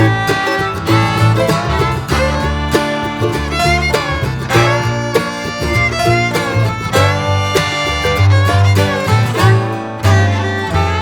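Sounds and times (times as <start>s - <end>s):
repeating bass line: 0.0s - 11.0s
string instrument melody: 0.0s - 11.0s.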